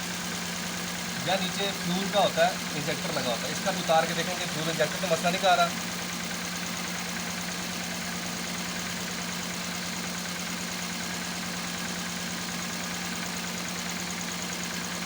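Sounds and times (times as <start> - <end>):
car engine idling with misfire: 0.0 - 15.0.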